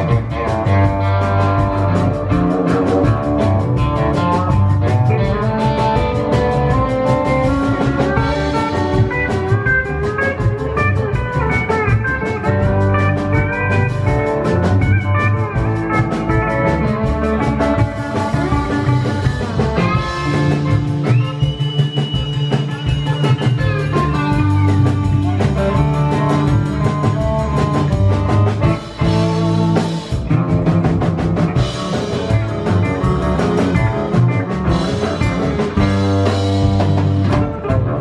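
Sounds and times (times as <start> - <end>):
country band playing: 0.0 - 38.0.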